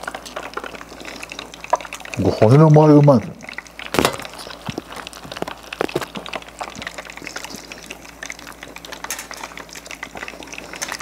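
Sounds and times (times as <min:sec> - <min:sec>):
hot oil sizzling in deep fryer: 0:00.0 - 0:11.0.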